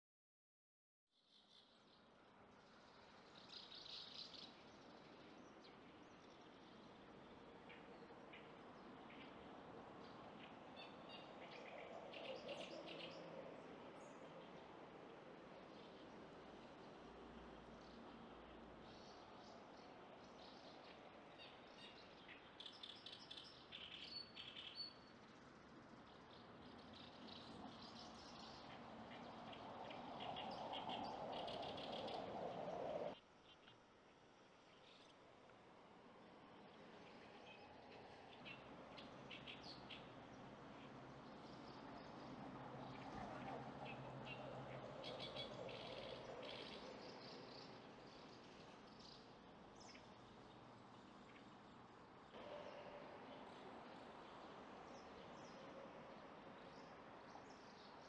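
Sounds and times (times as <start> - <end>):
low background noise: 1.2 - 58.0.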